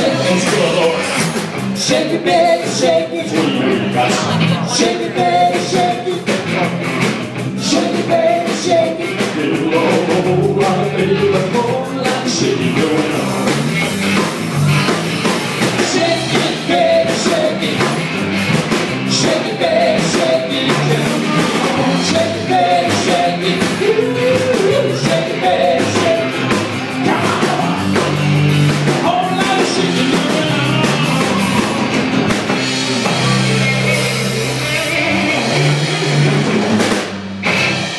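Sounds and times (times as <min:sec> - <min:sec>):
person singing: 0:00.0 - 0:13.7, 0:15.6 - 0:18.0, 0:19.0 - 0:28.3, 0:28.9 - 0:32.0, 0:33.0 - 0:35.8
rock band playing: 0:00.0 - 0:37.9.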